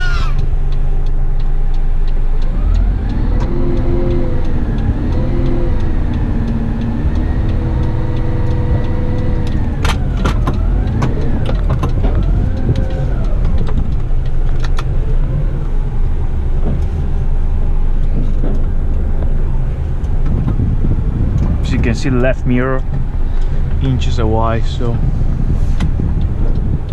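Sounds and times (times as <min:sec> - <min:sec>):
sharp clicks: 0:00.0 - 0:26.9
truck engine rumbling: 0:00.0 - 0:26.9.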